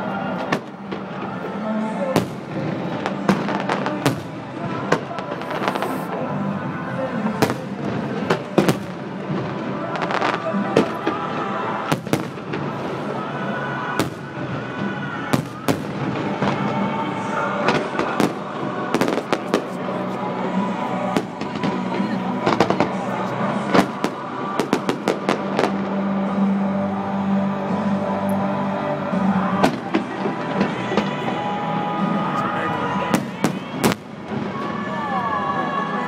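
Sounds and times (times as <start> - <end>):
background music: 0.0 - 36.0
fireworks bangs: 0.2 - 6.3, 7.1 - 26.5, 29.2 - 35.0.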